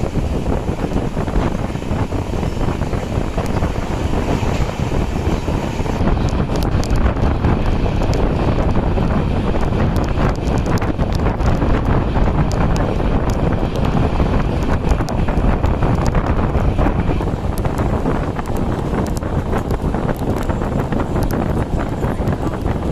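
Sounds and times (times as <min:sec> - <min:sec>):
train rumble: 0:00.0 - 0:22.9
wind buffeting microphone: 0:00.0 - 0:22.9.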